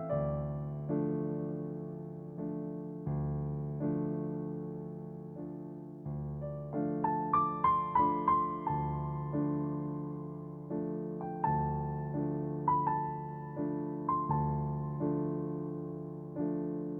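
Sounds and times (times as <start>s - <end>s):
calm piano music: 0.0s - 16.9s.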